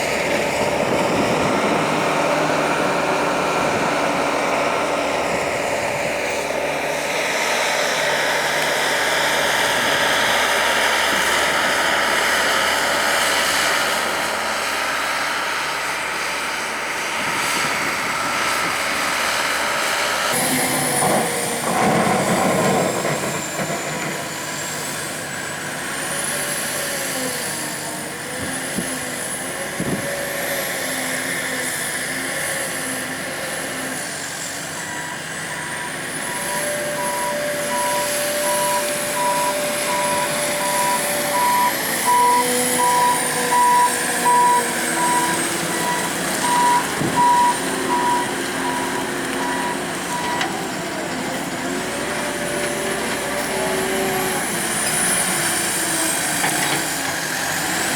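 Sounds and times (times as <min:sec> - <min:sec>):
vehicle engine noise: 0:00.0 - 0:57.9.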